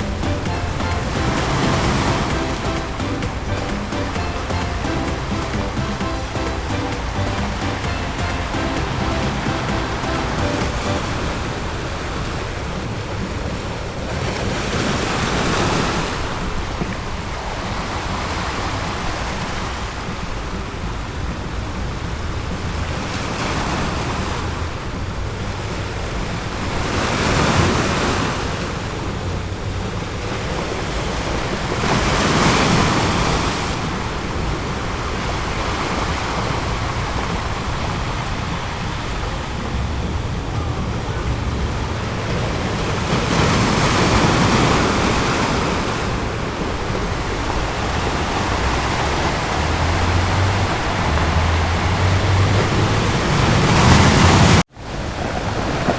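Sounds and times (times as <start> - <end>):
ocean waves breaking on beach: 0.0 - 55.9.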